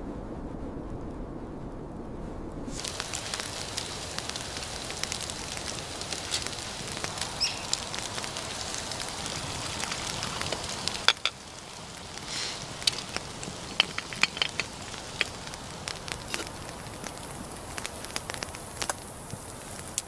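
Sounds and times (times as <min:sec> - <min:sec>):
campfire crackling and popping: 0:02.7 - 0:20.0.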